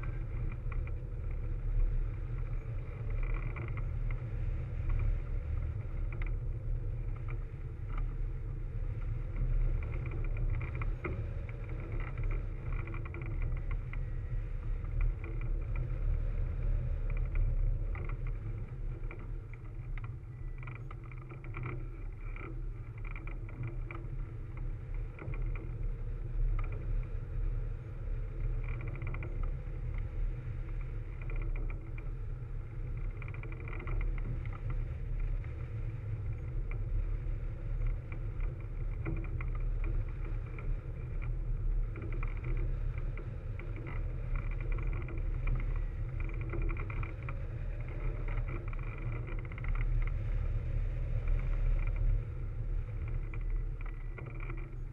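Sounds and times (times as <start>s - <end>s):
wind rushing over camera: 0.0s - 54.9s.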